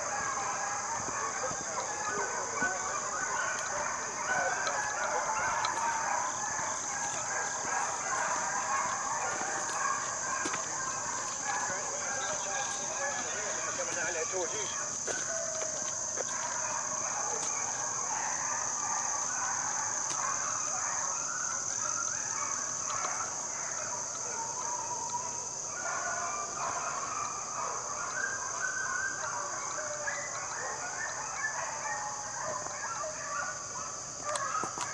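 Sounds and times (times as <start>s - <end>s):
high insect trill: 0.0s - 34.9s
hounds baying in chorus: 0.0s - 34.9s.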